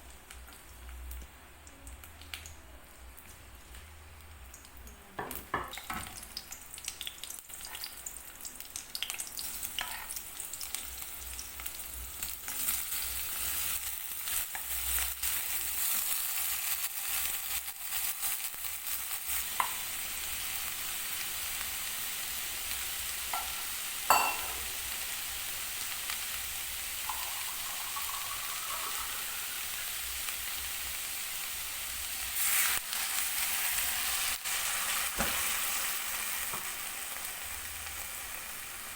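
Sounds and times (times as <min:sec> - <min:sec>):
food sizzling in oil: 0:05.2 - 0:38.9.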